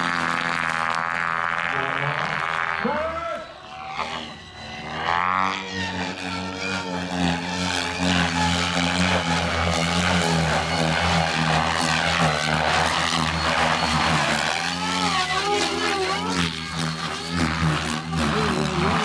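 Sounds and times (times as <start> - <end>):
helicopter rotor buzzing hum: 0.0 - 19.0
rotor blades rushing: 0.0 - 19.0.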